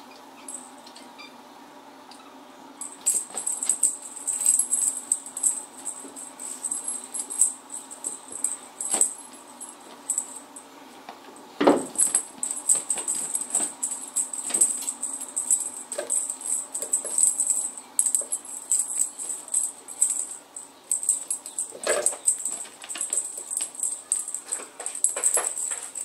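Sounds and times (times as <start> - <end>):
cat toy jingling: 2.8 - 10.6, 11.8 - 26.0.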